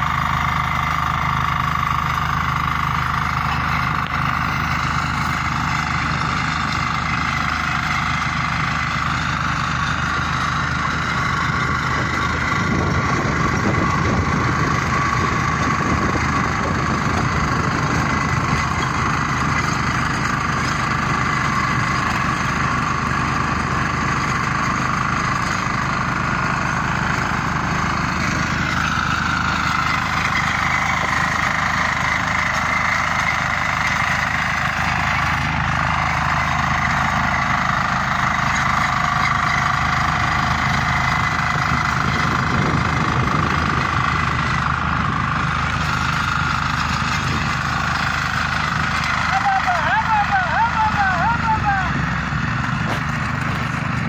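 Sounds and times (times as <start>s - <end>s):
rotary tiller engine running: 0.0s - 54.0s
tines churning soil: 0.0s - 54.0s.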